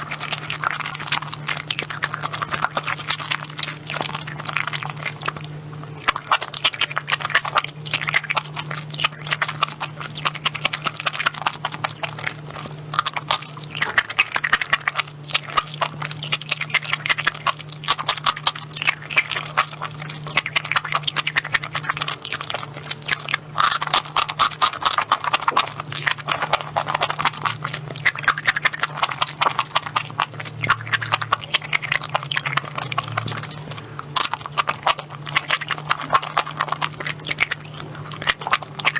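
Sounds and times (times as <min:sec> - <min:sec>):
wet chewing and mouth sounds: 0:00.0 - 0:38.9.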